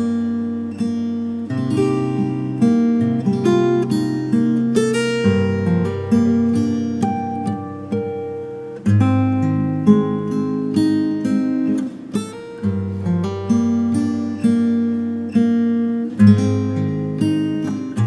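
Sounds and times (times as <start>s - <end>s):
plucked acoustic guitar: 0.0s - 18.0s.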